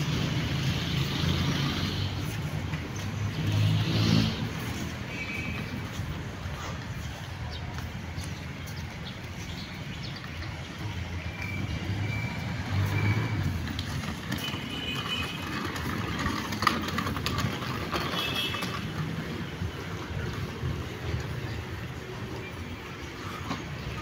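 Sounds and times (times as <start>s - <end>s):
passing vehicles rumbling: 0.0s - 24.0s.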